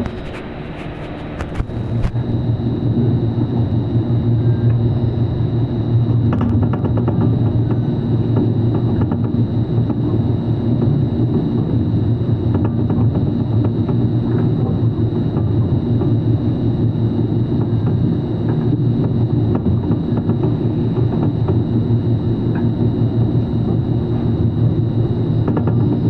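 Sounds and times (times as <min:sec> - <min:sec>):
faint high whine: 0:00.0 - 0:26.0
welding machine drone: 0:00.0 - 0:26.0.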